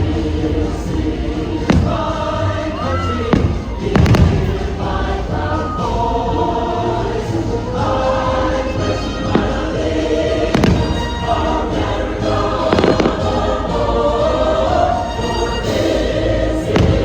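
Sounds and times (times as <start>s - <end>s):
choral music over loudspeakers: 0.0s - 17.0s
fireworks bursting: 0.0s - 17.0s.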